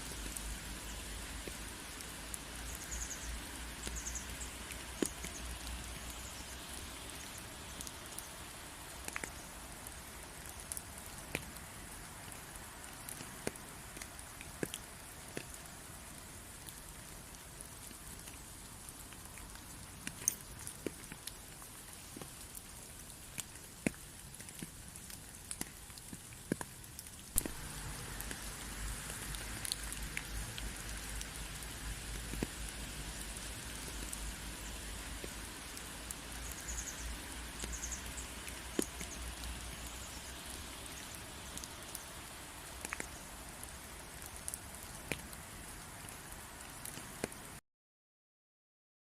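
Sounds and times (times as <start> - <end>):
steady rain: 0.0 - 47.6.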